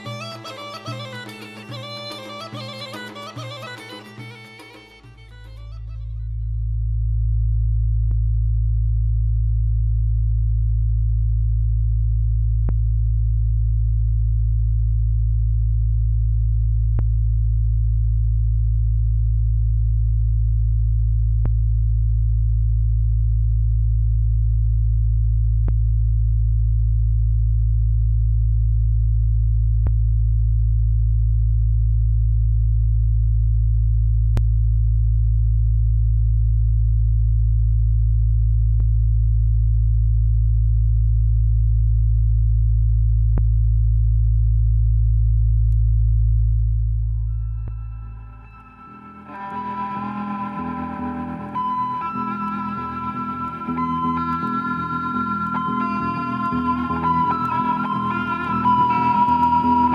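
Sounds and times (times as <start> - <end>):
low drone of deep tones: 5.4 - 59.9.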